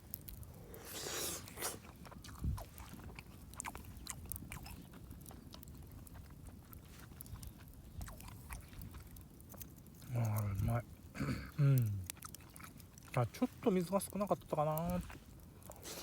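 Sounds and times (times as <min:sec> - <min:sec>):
person chewing rice: 0:00.0 - 0:16.0.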